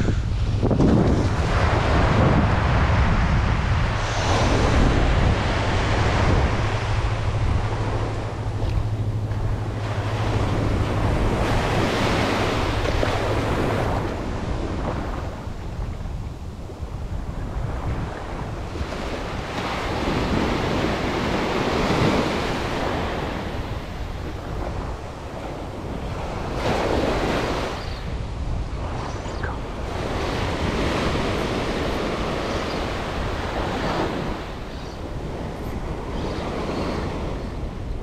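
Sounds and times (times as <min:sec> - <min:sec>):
ocean surf on beach: 0:00.0 - 0:38.0
wind buffeting microphone: 0:00.0 - 0:38.0.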